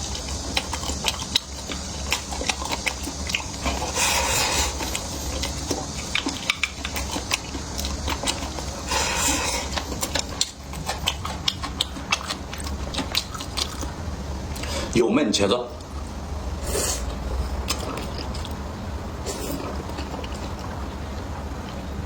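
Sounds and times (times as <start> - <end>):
chewing: 0.0 - 14.9, 15.8 - 22.0.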